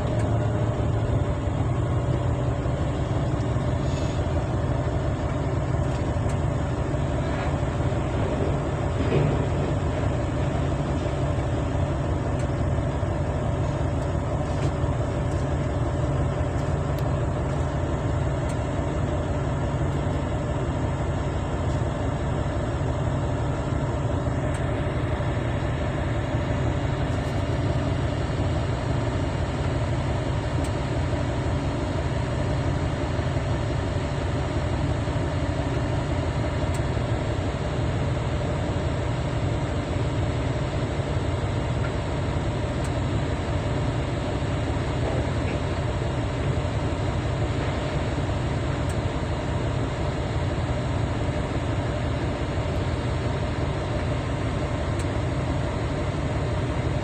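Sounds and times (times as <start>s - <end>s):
heavy diesel engines droning: 0.0s - 57.0s.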